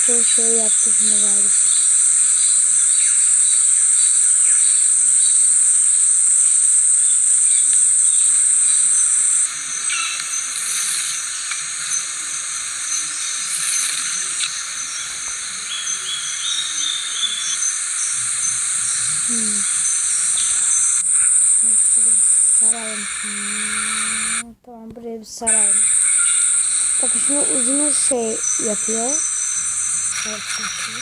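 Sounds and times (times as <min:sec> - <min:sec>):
insects chirring: 0:00.0 - 0:24.4, 0:25.3 - 0:31.0.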